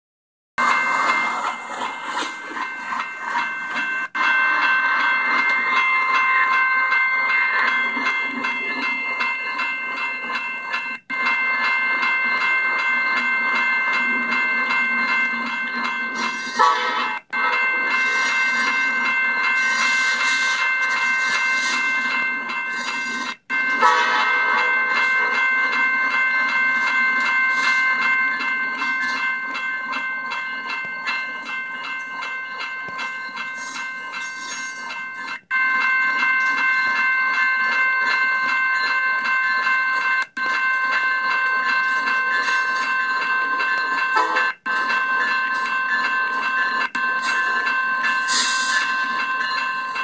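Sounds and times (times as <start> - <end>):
freight train rolling slowly: 0.6 - 50.0
locomotive bell ringing: 0.6 - 50.0.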